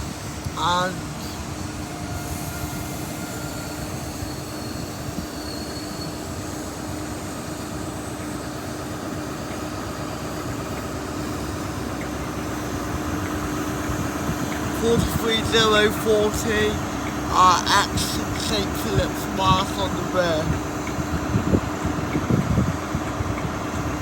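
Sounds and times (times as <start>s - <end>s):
high-speed train passing: 0.0s - 24.0s
rumble of wheels and engines: 0.0s - 24.0s.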